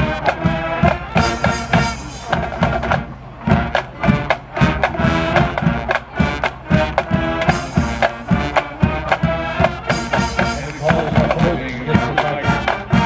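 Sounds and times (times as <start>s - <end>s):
marching band playing: 0.0s - 13.0s
steady drum beat: 0.0s - 13.0s.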